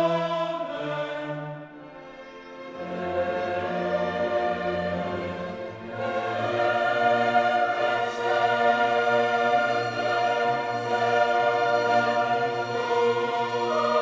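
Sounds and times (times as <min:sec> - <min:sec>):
choir holding long chords: 0:00.0 - 0:14.0
orchestral music: 0:00.0 - 0:14.0.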